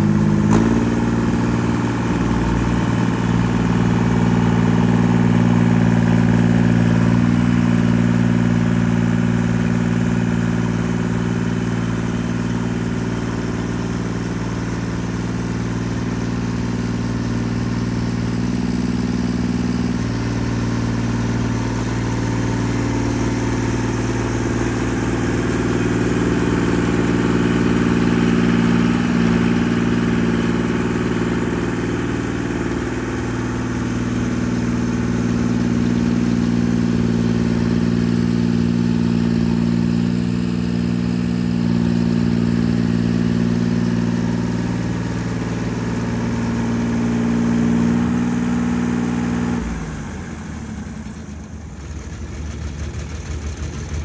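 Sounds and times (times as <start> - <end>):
stump grinder engine running: 0.0 - 54.0.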